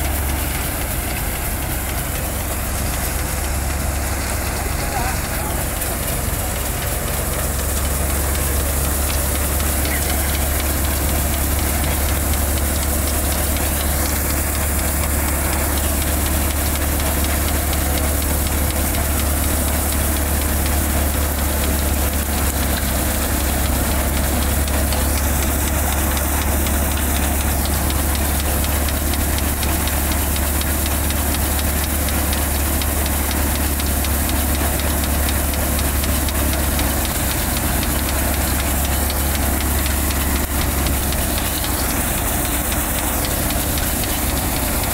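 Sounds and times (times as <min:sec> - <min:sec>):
engine hum: 0:00.0 - 0:44.9
threshing machine hiss: 0:00.0 - 0:44.9.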